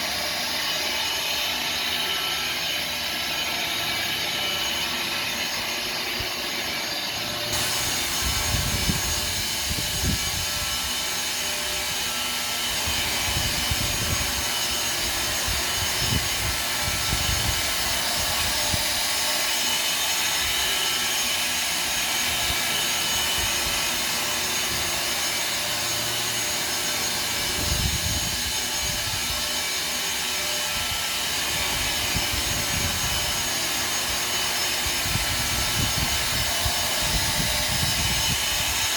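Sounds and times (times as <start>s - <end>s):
machine whine and hiss: 0.0s - 38.9s.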